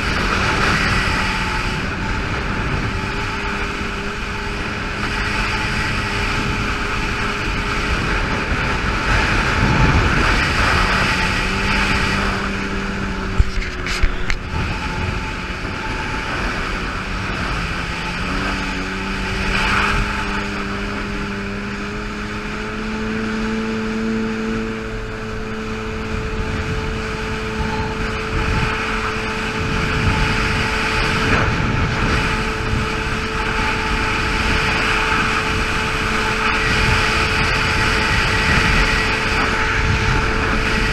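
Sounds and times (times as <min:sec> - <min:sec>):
jet ski engine running: 0:00.0 - 0:40.9
water rushing: 0:00.0 - 0:40.9.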